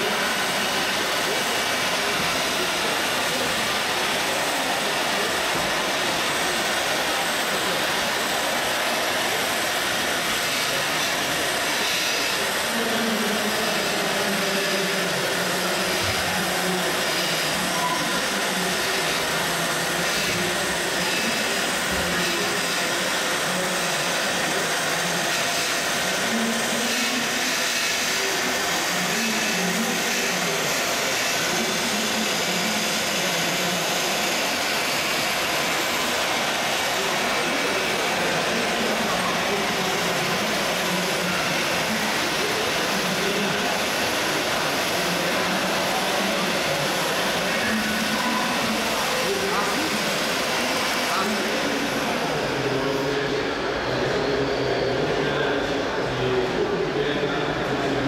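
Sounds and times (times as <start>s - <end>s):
rc model machines humming: 0.0s - 55.2s
exhibition hall din: 0.0s - 58.0s.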